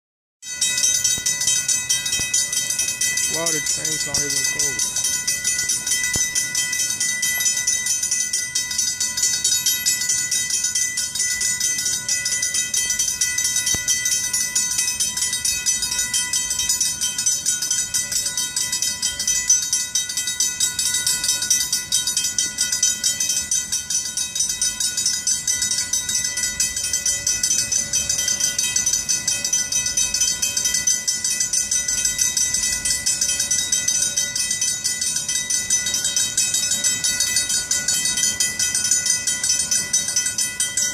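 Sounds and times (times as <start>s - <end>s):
crossing bells ringing: 0.4s - 40.9s.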